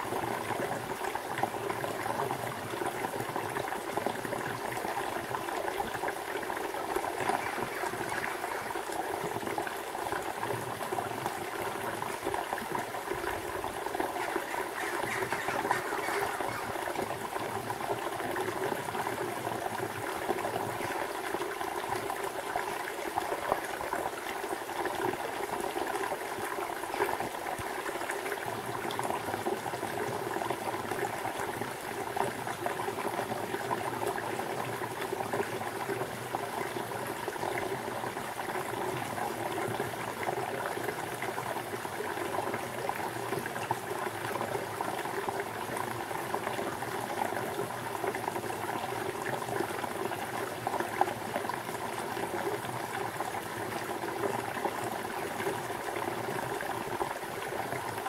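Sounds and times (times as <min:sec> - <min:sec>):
stream gurgling over stones: 0:00.0 - 0:58.0.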